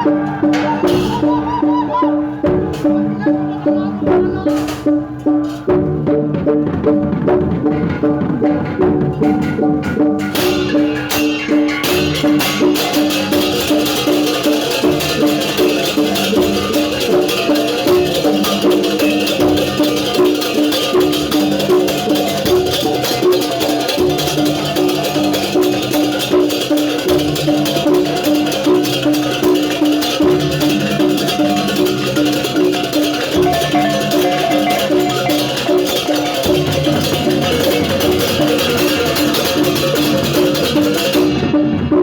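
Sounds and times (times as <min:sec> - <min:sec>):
rhythmic percussion music: 0:00.0 - 0:42.0
bright dense rattling: 0:07.4 - 0:41.9.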